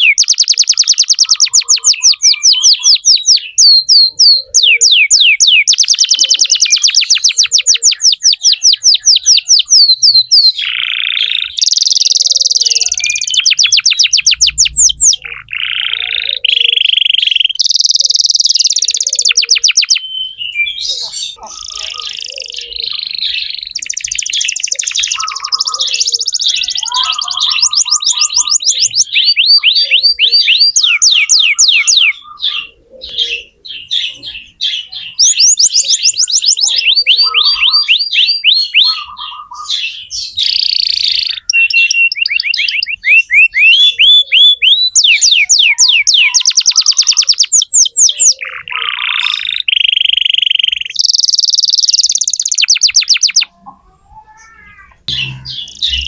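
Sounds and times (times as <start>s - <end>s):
canary singing rapid trills: 0.0s - 56.0s.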